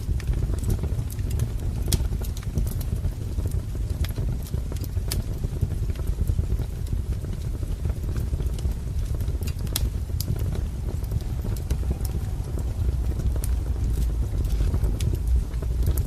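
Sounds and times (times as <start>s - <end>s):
low steady rumble: 0.0s - 16.0s
wood fire crackling and popping: 0.0s - 16.0s.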